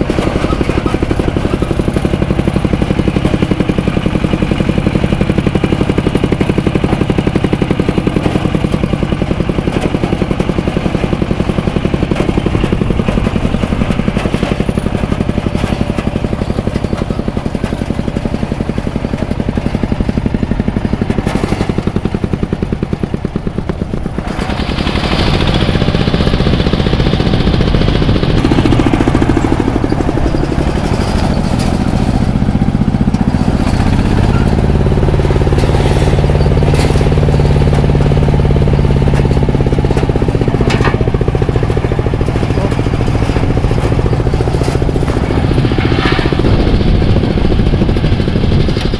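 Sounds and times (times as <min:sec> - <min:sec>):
combine harvester engine running: 0:00.0 - 0:48.9
machine clatter: 0:00.0 - 0:48.9.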